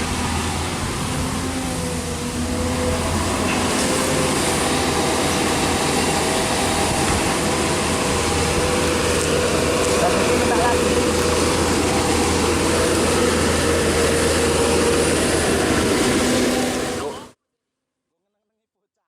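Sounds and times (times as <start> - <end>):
excavator diesel engine drone: 0.0 - 17.4
whining tones: 0.0 - 17.4.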